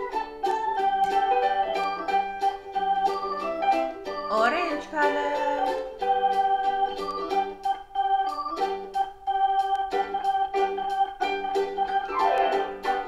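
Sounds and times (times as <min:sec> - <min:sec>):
organ-like keyboard tune with beat: 0:00.0 - 0:04.3, 0:05.6 - 0:13.0.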